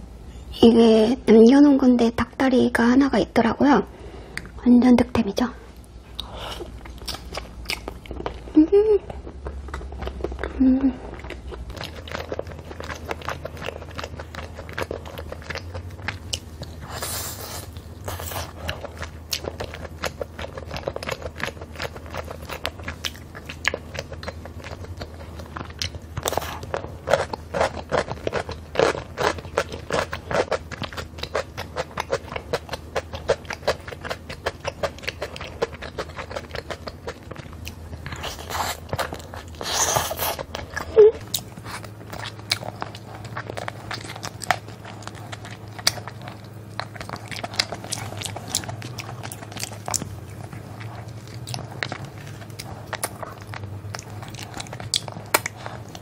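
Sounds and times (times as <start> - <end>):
wet chewing and smacking: 5.8 - 56.0.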